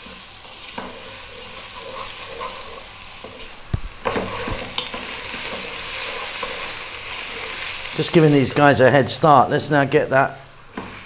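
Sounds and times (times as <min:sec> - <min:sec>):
wooden spoon scraping vegetables: 0:00.0 - 0:09.2
vegetables sizzling in oil: 0:00.0 - 0:11.0.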